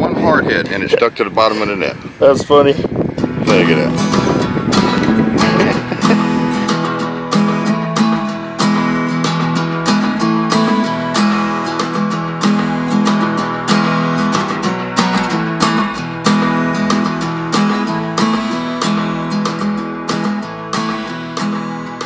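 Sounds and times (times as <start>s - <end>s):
strummed acoustic guitar: 2.8s - 22.0s.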